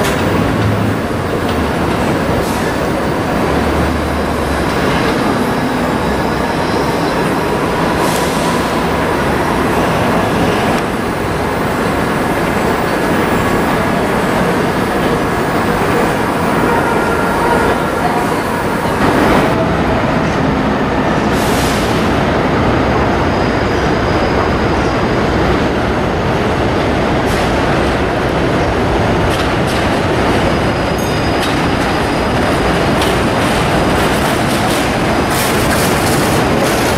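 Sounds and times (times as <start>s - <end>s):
train wheels rumbling on steel track: 0.0s - 36.9s.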